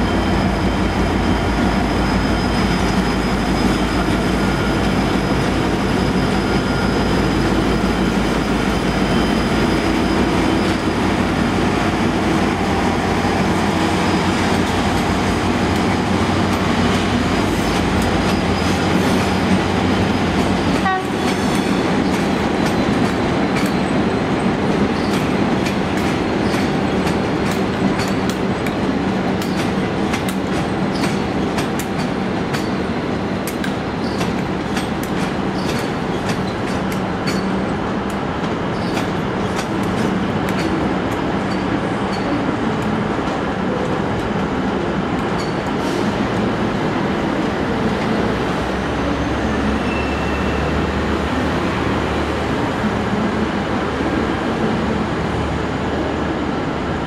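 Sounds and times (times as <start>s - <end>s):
train low hum: 0.0s - 57.0s.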